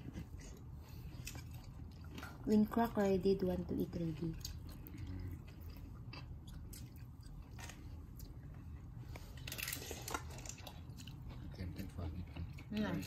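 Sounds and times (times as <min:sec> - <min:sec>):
person chewing: 0:00.0 - 0:02.4, 0:04.3 - 0:13.0.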